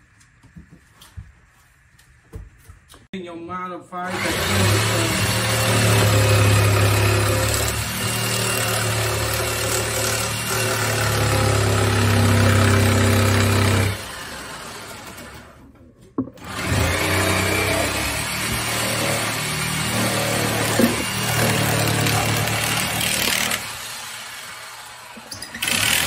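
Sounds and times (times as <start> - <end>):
electric jigsaw cutting: 4.1 - 15.6, 16.4 - 26.0.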